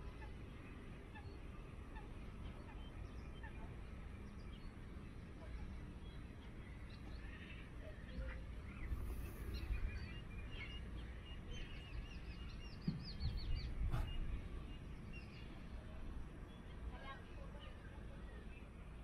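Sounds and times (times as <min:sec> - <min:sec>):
wild birds chirping: 0:00.0 - 0:19.0.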